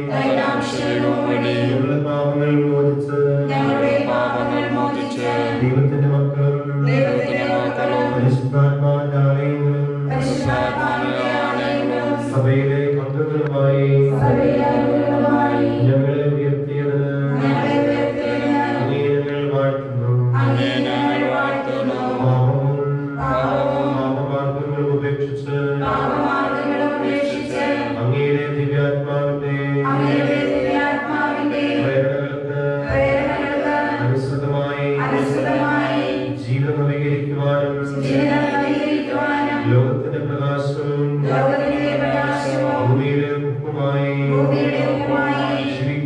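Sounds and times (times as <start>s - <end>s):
man chanting a prayer: 0.0s - 46.0s.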